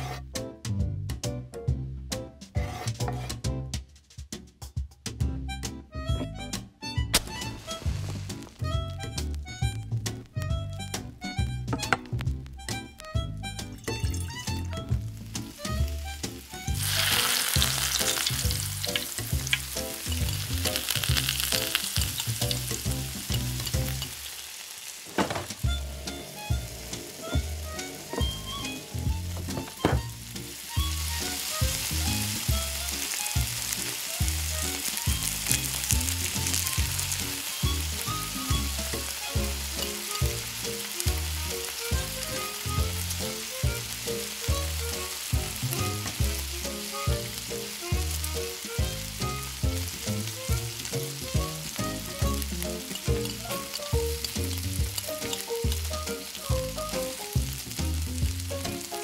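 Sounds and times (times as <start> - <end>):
meat sizzling in a pan: 7.2 - 9.6, 13.6 - 59.0.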